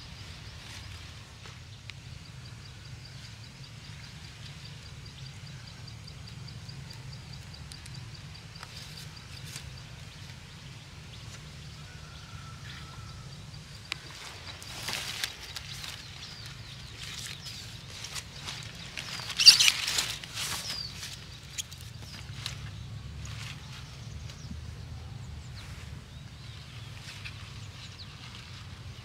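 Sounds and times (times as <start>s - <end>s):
leaves rustling and crackling: 0.0s - 2.2s, 7.0s - 11.6s, 12.7s - 29.0s.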